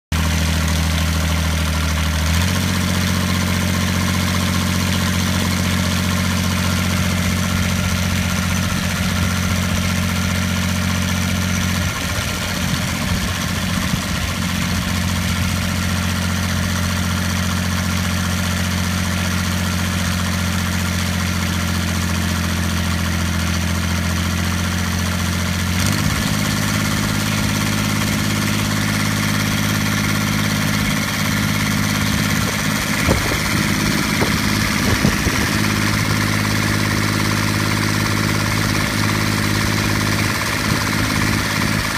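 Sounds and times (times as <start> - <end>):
diesel engine revving: 0.1 - 41.9.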